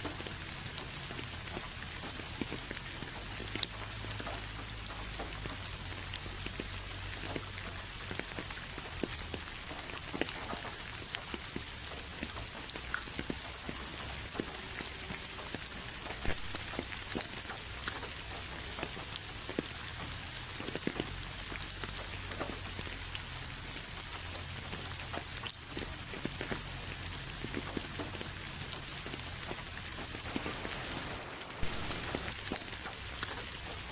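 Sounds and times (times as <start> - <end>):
raindrops ticking: 0.0 - 33.9
steady rain: 0.0 - 33.9.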